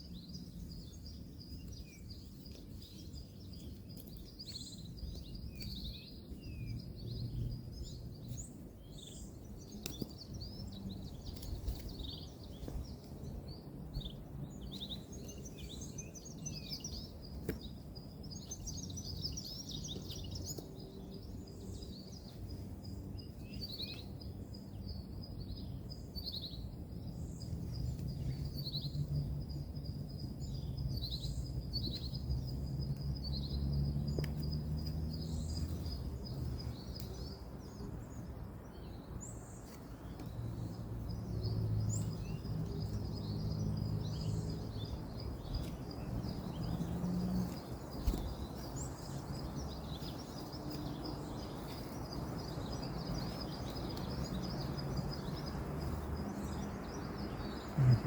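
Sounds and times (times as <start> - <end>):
birds chirping: 0.0 - 58.0
distant road traffic rumble: 0.0 - 58.0.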